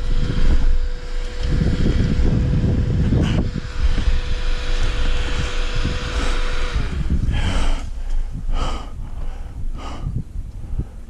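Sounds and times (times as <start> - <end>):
dirt bike engine running: 0.0 - 10.9
wind buffeting the microphone: 0.0 - 11.0.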